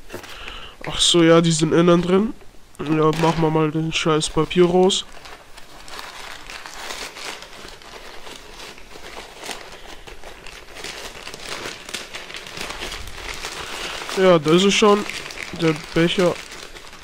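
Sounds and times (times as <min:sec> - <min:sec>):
packing paper crumpling: 0:02.8 - 0:17.0.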